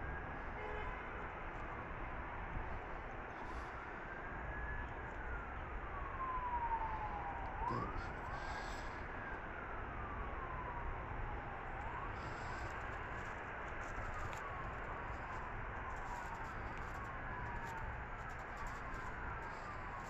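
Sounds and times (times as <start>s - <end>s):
emergency vehicle siren wailing: 0.0s - 20.0s
steady background noise: 0.0s - 20.0s.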